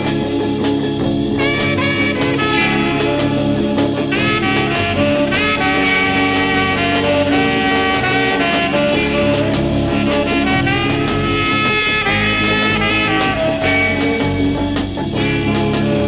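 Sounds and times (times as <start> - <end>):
swing music with brass and saxophone: 0.0 - 16.0.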